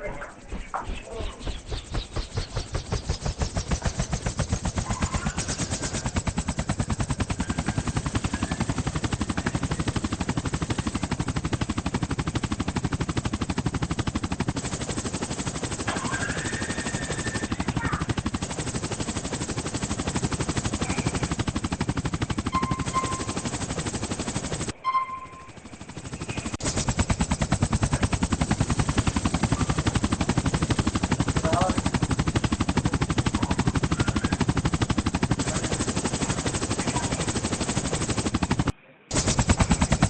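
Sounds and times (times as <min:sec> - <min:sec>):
toy helicopter rotors chopping: 0:00.0 - 0:24.8, 0:25.4 - 0:40.0.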